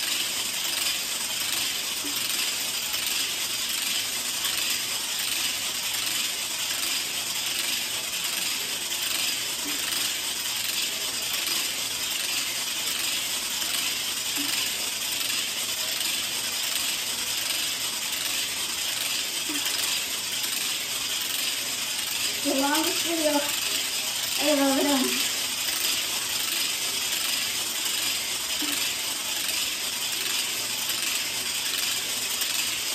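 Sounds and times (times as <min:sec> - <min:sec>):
weighted hula hoop rattling: 0:00.0 - 0:32.9.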